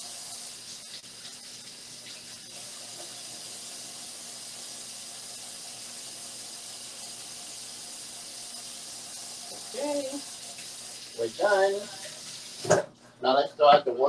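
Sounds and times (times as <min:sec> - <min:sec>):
kitchen tap running: 0:00.0 - 0:13.0.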